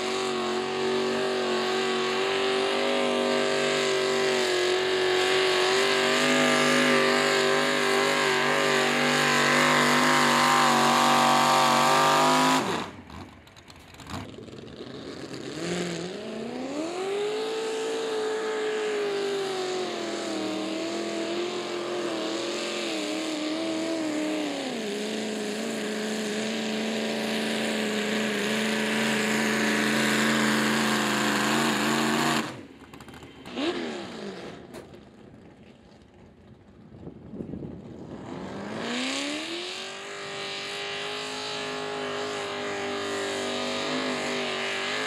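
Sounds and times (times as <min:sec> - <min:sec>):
tractor engine at full throttle: 0:00.0 - 0:45.0.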